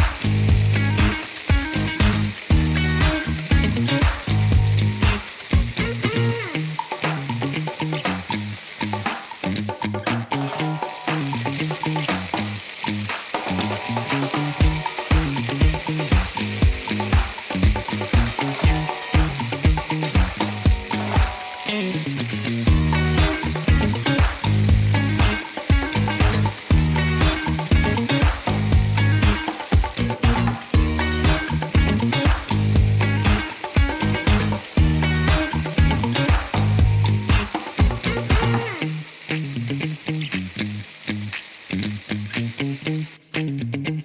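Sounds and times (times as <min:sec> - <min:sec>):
background music with beat: 0:00.0 - 0:22.0, 0:22.7 - 0:38.8
food sizzling in hot oil: 0:00.0 - 0:43.8.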